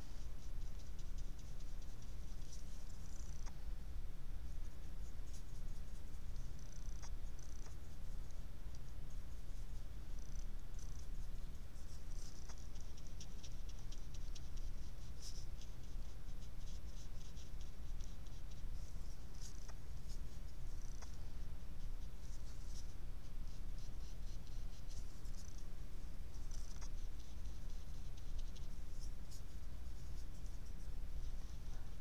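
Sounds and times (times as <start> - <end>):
paintbrush strokes on paper: 0.0 - 32.0
steady low hum: 0.0 - 32.0.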